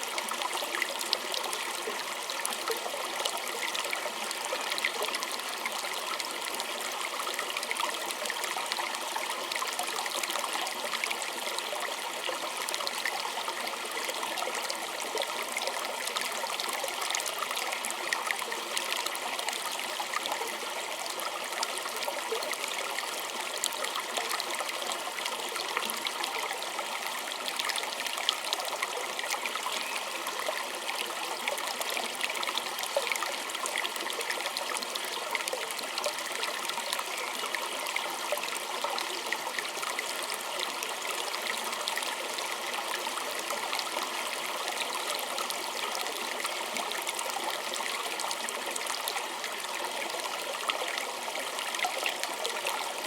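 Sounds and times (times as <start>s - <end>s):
creek babbling over stones: 0.0s - 53.0s.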